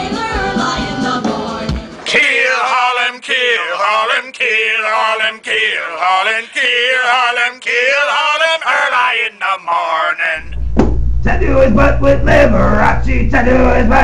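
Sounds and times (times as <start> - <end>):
men singing a sea shanty: 1.2 - 10.4, 11.4 - 14.0.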